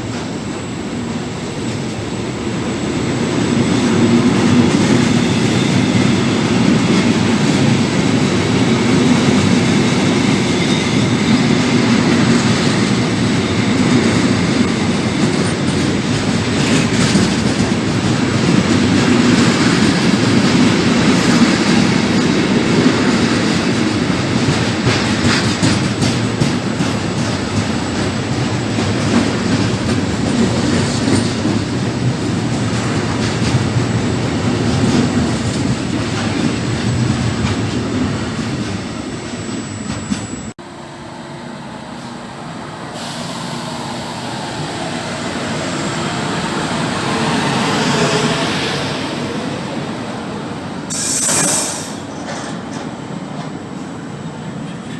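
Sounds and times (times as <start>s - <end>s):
freight train rumbling: 0.0s - 54.9s.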